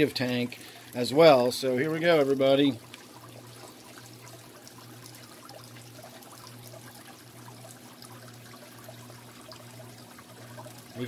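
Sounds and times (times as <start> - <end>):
low steady hum: 0.0 - 11.0
water trickling into a tank: 0.0 - 11.0.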